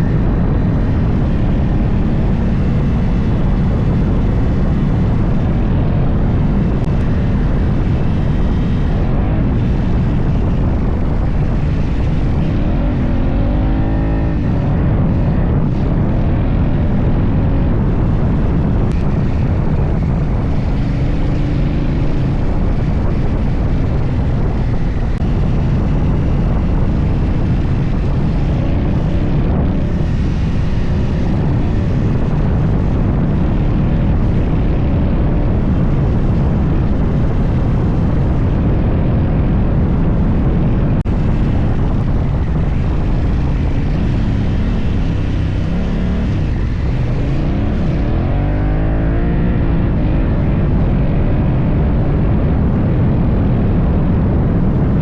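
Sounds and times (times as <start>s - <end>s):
motorcycle engine running: 0.0s - 55.0s
wind and tyre noise: 0.0s - 55.0s.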